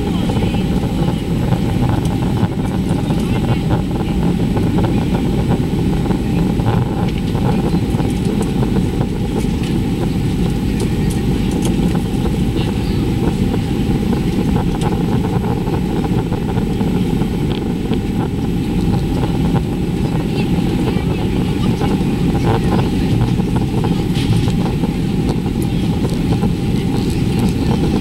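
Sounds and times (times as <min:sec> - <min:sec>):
faint steady whine: 0:00.0 - 0:28.0
low roar of jet engines: 0:00.0 - 0:28.0
rushing air: 0:00.0 - 0:28.0.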